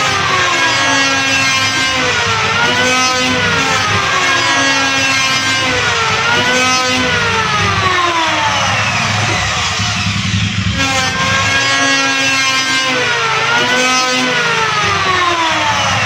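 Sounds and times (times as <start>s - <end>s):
electric planer motor whining: 0.0s - 16.0s.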